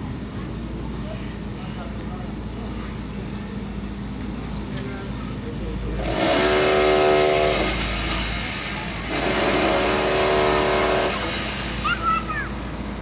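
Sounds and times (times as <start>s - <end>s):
heavy machine engine running hard: 2.4s - 13.0s.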